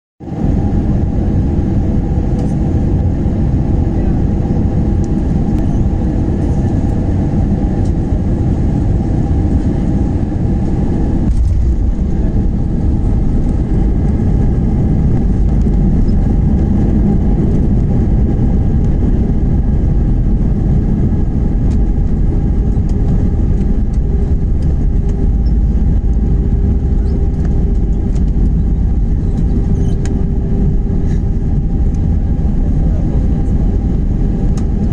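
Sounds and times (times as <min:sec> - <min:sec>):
airliner engines rumbling: 0:00.2 - 0:34.9
steady hum tones: 0:00.2 - 0:34.9.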